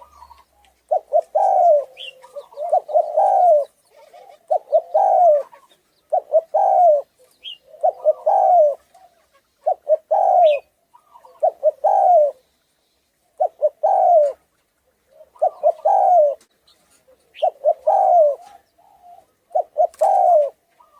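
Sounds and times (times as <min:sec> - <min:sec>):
dove cooing: 0:00.0 - 0:12.5, 0:13.4 - 0:20.9.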